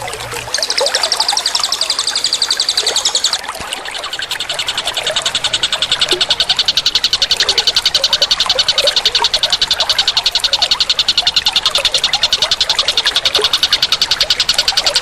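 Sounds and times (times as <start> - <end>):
fast pulsing animal call: 0.0 - 15.0.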